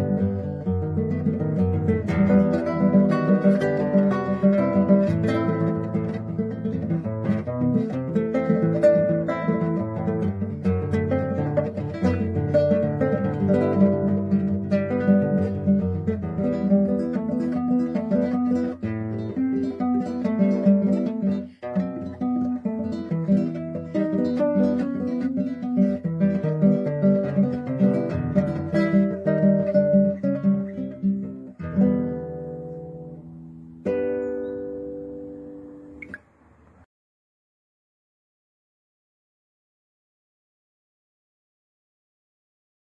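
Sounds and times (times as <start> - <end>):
acoustic guitar plucked and strummed: 0.0 - 36.8.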